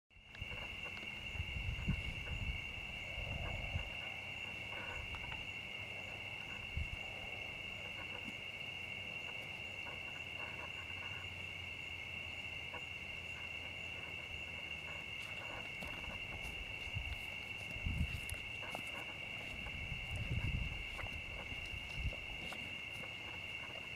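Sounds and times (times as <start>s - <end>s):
night insects trilling: 0.1s - 23.9s.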